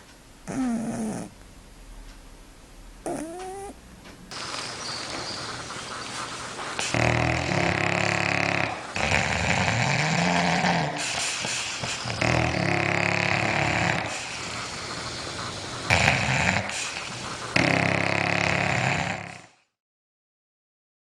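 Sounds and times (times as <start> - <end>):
pet snoring: 0.4 - 1.4, 3.0 - 19.7.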